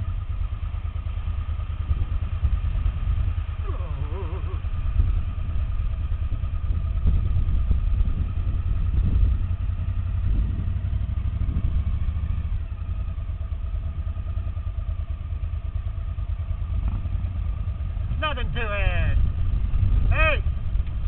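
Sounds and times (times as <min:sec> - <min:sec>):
motorcycle engines idling: 0:00.0 - 0:21.0.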